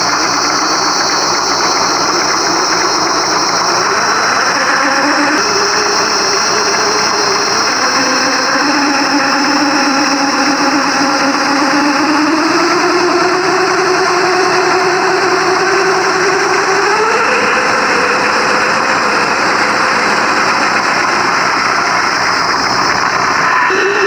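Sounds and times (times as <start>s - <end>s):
simulated engine sound: 0.0s - 24.0s
steady high whine: 0.0s - 24.0s.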